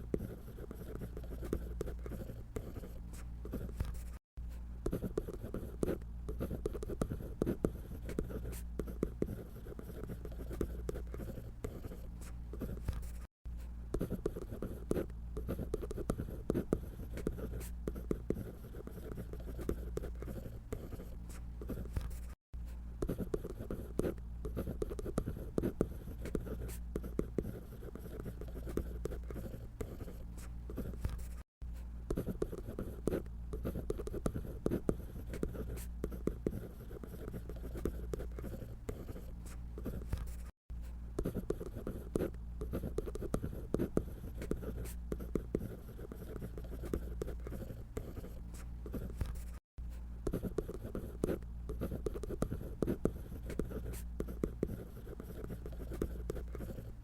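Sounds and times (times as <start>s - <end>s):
pencil scratching on paper: 0.0s - 57.0s.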